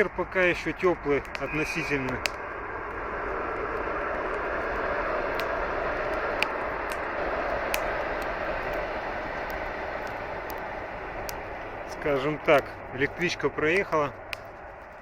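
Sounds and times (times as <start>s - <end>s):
electric train passing: 0.6s - 14.8s.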